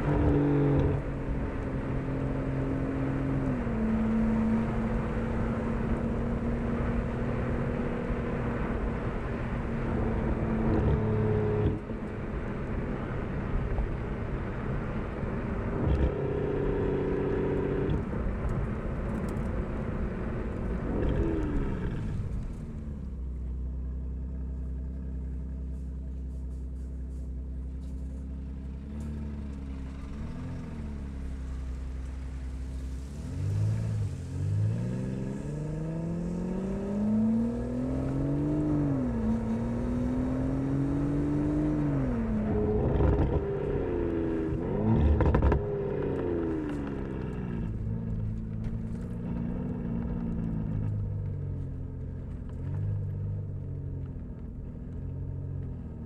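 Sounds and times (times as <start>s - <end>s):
car engine and exhaust: 0.0s - 56.0s
road noise: 0.0s - 56.0s.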